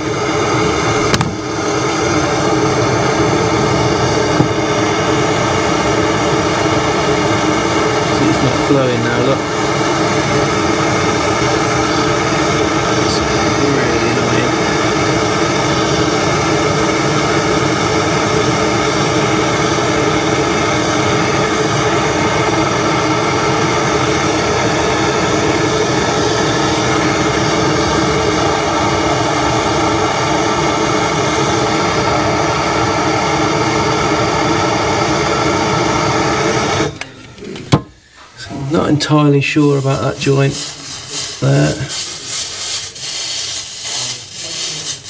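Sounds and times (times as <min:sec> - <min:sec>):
blowtorch hissing: 0:00.0 - 0:45.0.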